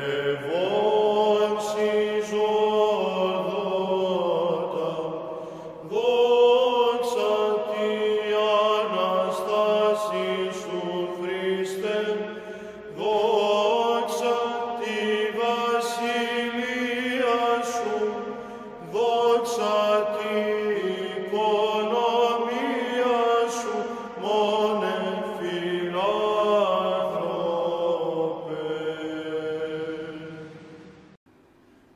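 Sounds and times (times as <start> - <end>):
chanted hymn melody: 0.0 - 31.2
sung low drone: 0.0 - 31.2.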